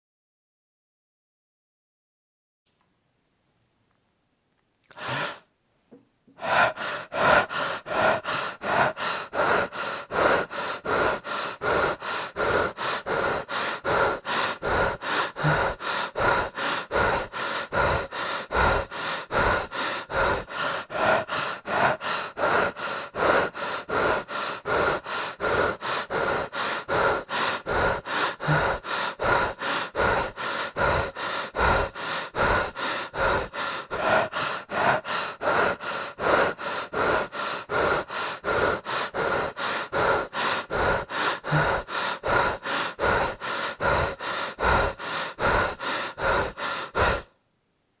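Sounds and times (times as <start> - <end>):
person breathing fast and heavily: 4.8 - 5.6, 6.3 - 47.4.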